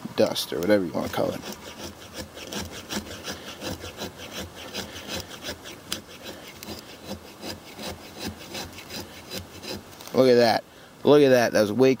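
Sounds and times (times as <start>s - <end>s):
machete scraping wooden stick: 0.5s - 10.2s.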